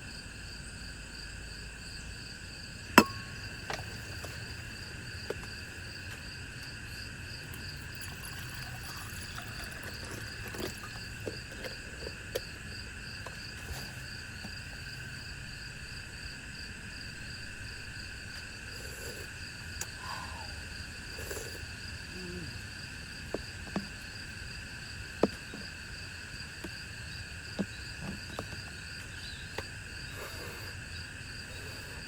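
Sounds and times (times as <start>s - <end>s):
chorus of insects: 0.0s - 32.0s.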